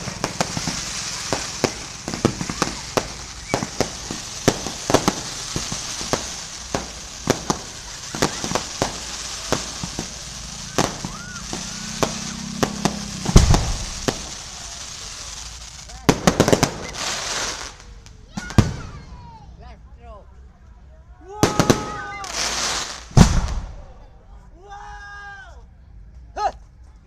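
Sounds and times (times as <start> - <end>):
fireworks bangs and pops: 0.0 - 19.2, 21.4 - 24.0
fireworks crackling hiss: 0.0 - 19.4, 21.4 - 23.9.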